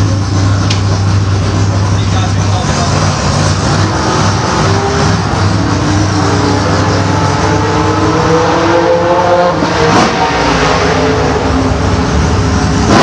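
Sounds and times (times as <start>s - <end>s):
drag racing engine revving: 0.0s - 13.0s.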